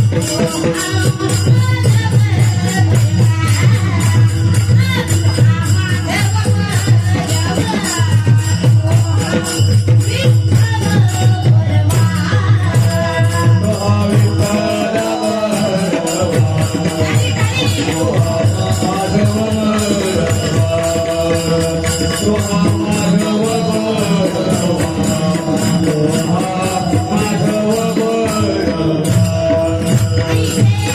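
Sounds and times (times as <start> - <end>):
hand cymbals clashing: 0.0 - 30.9
melodic devotional singing: 0.0 - 30.9.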